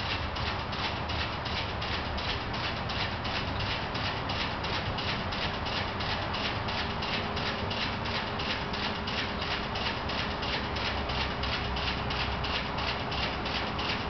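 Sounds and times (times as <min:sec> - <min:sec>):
motor rotor rhythmic ticking: 0:00.0 - 0:14.0.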